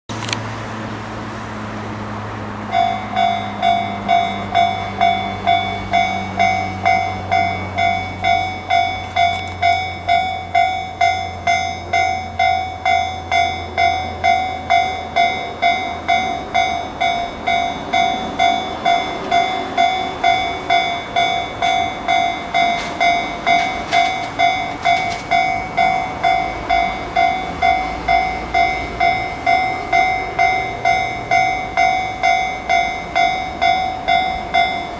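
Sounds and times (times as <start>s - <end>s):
level-crossing warning bell: 1.0s - 34.9s.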